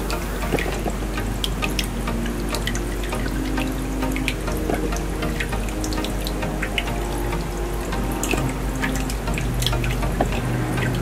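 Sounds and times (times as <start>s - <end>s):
soft background music: 0.0s - 11.0s
water trickling and splashing: 0.0s - 11.0s.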